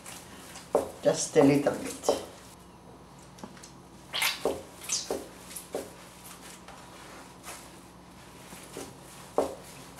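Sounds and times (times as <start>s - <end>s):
hands kneading wet meat paste: 0.0s - 2.5s, 4.0s - 9.9s.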